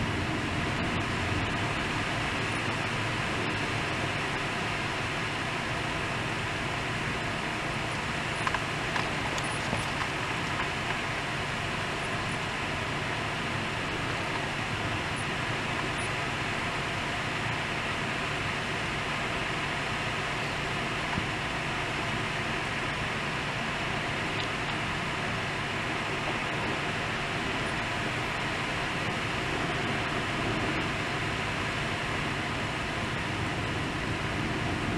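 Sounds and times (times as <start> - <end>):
wind gusts: 0.0 - 19.4, 23.8 - 34.9
heavy rain: 0.0 - 34.9.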